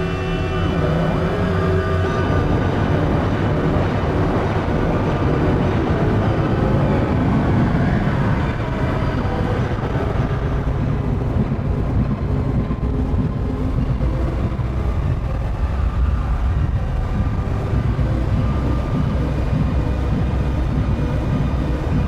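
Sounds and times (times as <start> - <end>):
low synthesizer drone: 0.0 - 22.0.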